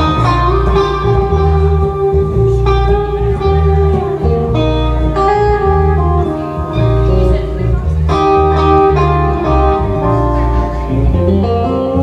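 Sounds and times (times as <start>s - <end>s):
bass guitar line: 0.0s - 12.0s
guitar playing melody: 0.0s - 12.0s.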